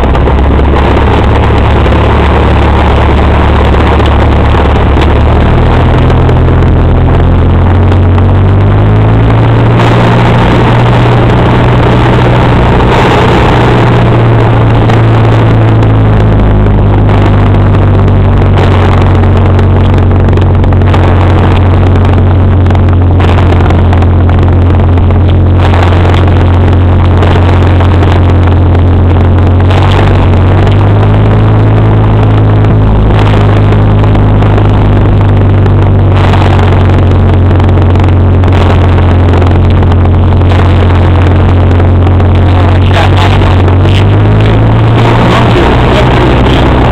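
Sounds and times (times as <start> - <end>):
propeller plane engine running: 0.0 - 46.9.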